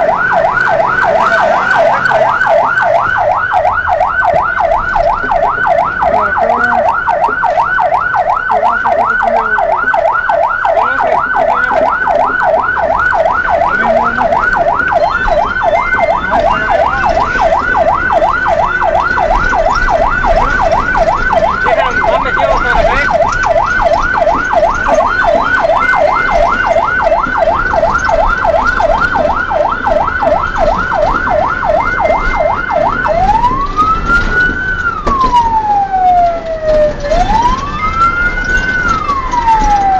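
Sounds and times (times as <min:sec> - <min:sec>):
fire engine siren: 0:00.0 - 0:39.9.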